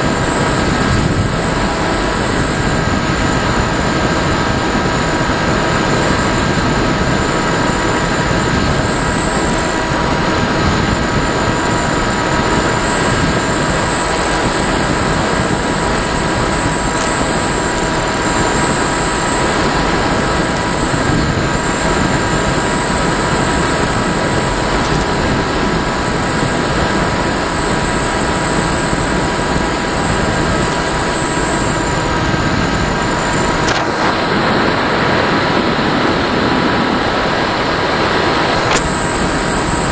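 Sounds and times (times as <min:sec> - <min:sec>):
rush of wind noise: 0:00.0 - 0:39.9
wavering high whine: 0:00.0 - 0:39.9.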